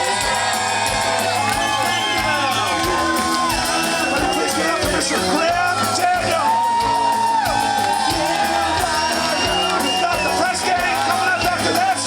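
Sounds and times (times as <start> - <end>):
drums hitting: 0.0 - 12.0
live rock band playing: 0.0 - 12.0.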